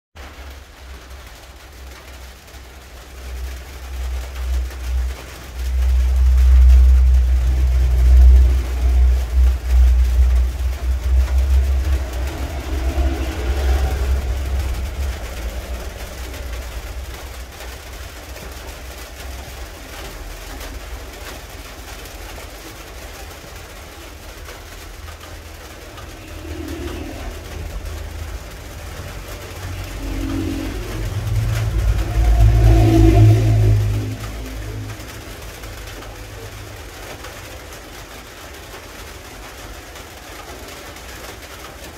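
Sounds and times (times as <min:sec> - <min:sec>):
passing vehicle engine rumble: 0:00.2 - 0:41.9.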